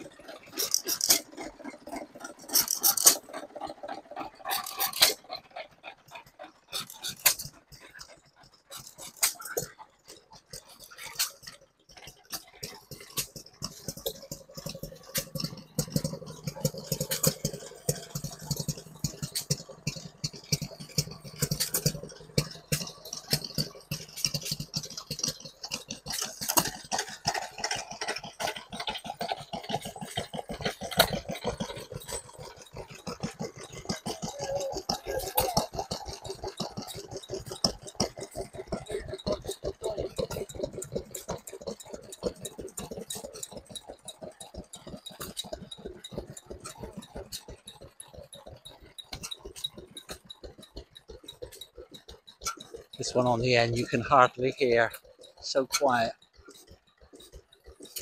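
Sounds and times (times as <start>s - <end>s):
stationary engines running: 0.0s - 58.0s
clatter of sharp knocks: 6.7s - 58.0s.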